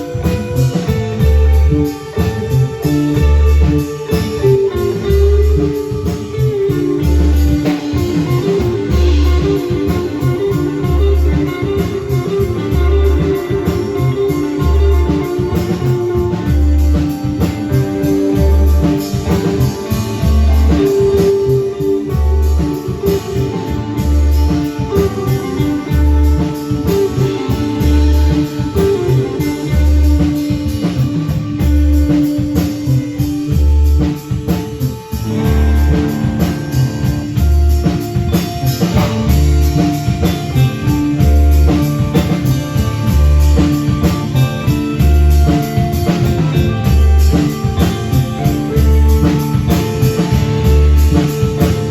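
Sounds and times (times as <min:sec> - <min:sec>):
drum kit: 0:00.0 - 0:51.9
guitar: 0:00.0 - 0:51.9.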